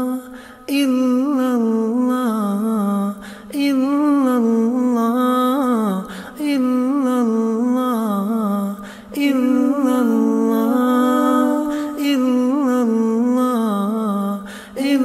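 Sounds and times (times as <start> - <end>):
solo voice chanting: 0.0 - 15.0.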